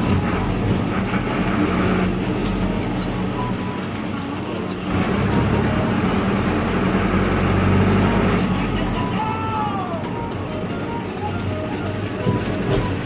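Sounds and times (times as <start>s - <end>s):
diesel engine running: 0.0s - 13.0s
music playing: 0.0s - 13.0s.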